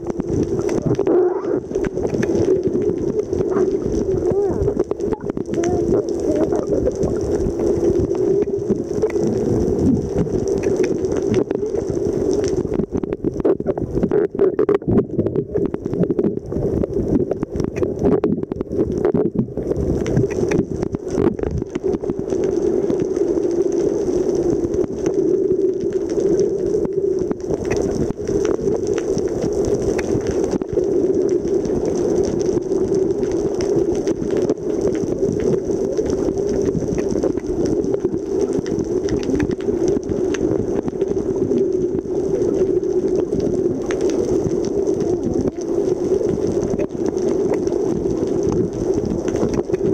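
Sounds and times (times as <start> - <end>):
crackling clicks: 0.0 - 49.9
underwater low hum: 0.0 - 49.9.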